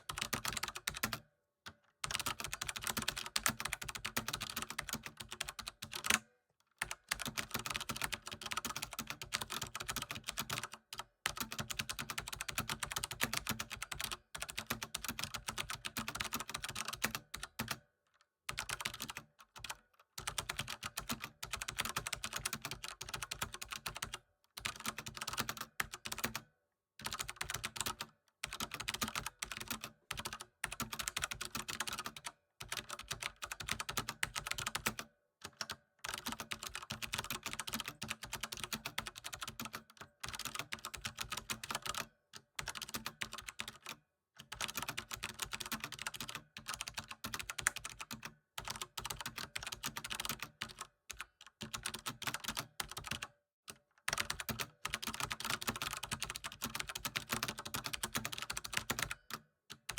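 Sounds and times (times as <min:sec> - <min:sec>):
fast typing on keyboard: 0:00.0 - 0:01.2, 0:02.0 - 0:06.2, 0:06.8 - 0:17.8, 0:18.5 - 0:59.9.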